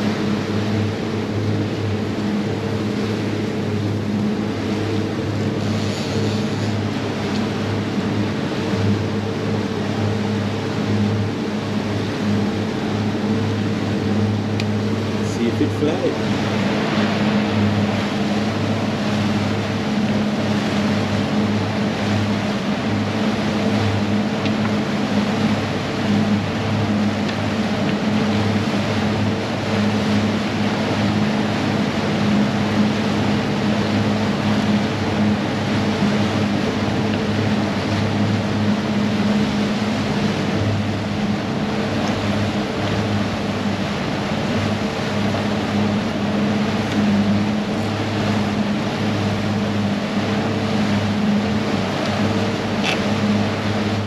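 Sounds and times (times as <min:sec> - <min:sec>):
outboard motors humming: 0:00.0 - 0:54.0
rush of boat wake: 0:00.0 - 0:54.0.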